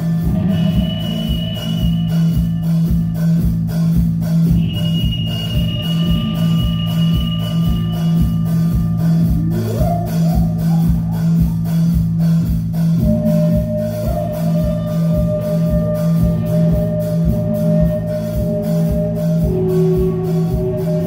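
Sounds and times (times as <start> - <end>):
bass and electric guitar: 0.0 - 21.0
drum beat: 0.0 - 21.0.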